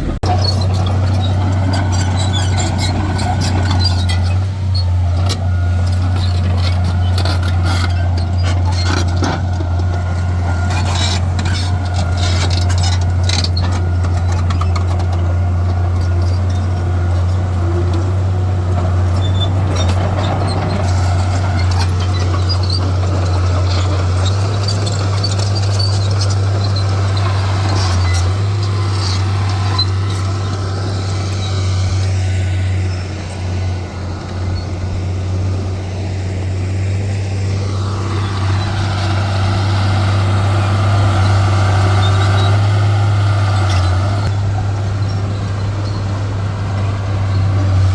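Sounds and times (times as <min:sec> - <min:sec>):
heavy machinery engine drone: 0:00.0 - 0:47.9.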